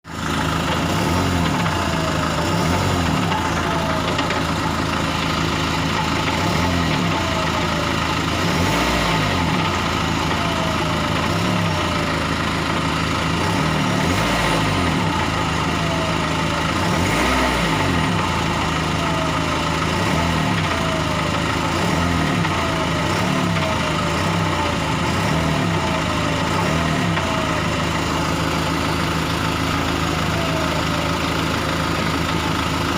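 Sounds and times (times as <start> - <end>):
car engine idling with knock: 0.1 - 32.9.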